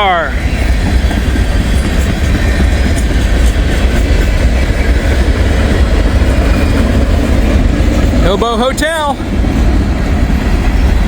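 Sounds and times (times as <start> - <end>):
train wheels rumbling on rail: 0.0 - 11.0
wheels clickety-clack: 0.6 - 11.0.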